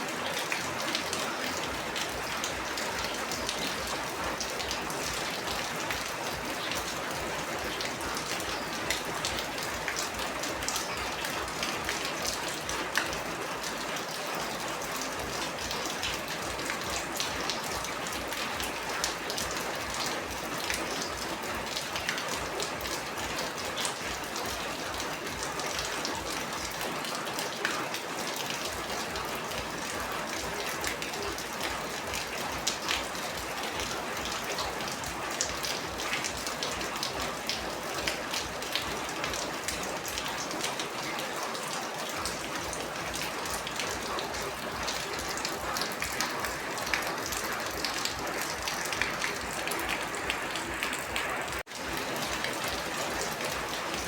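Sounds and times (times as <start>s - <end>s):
raindrops ticking: 0.0s - 54.0s.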